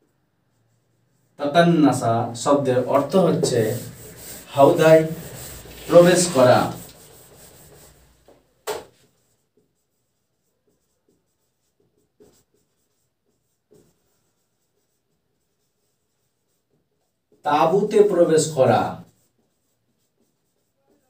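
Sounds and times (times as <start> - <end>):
marker scratching on whiteboard: 0.0 - 21.0.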